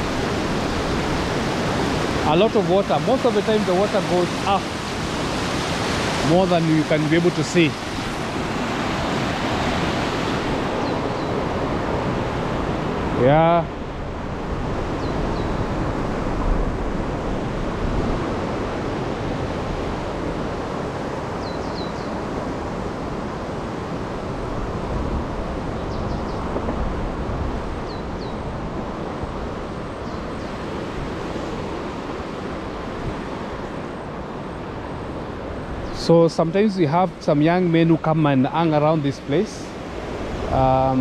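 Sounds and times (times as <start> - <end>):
river water rushing: 0.0 - 41.0
wind rumbling on microphone: 0.0 - 41.0.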